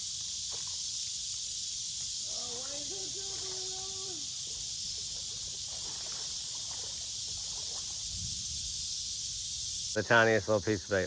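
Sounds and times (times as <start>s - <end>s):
shrill insect chorus: 0.0s - 11.0s.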